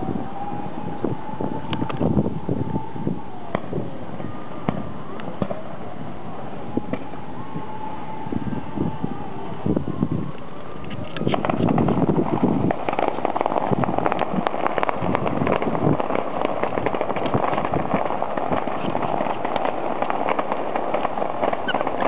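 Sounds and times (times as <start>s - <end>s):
fireworks crackling rush: 0.0s - 22.0s.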